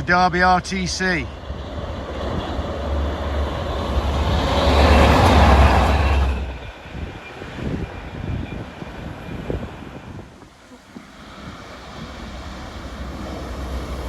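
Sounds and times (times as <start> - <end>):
train engine drone: 0.0 - 14.0.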